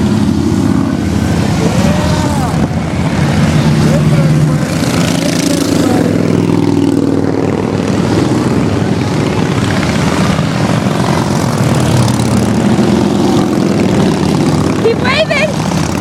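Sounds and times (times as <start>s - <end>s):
motorcycles riding past: 0.0s - 16.0s.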